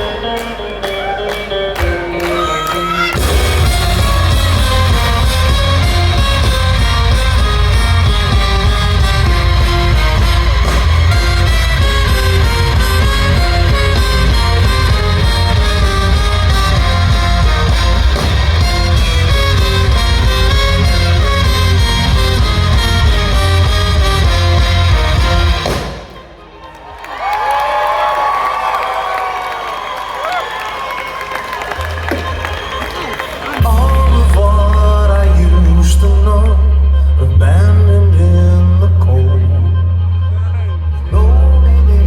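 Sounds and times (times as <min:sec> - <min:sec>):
melodic lead line: 0:00.0 - 0:26.5, 0:32.3 - 0:42.0
live rock band playing: 0:00.0 - 0:26.6, 0:31.6 - 0:42.0
heavy bass: 0:01.8 - 0:26.6, 0:32.0 - 0:42.0.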